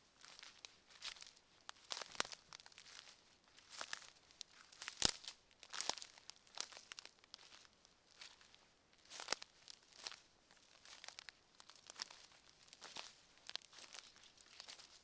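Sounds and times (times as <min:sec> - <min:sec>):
crackly footsteps on forest path: 0:00.0 - 0:15.0.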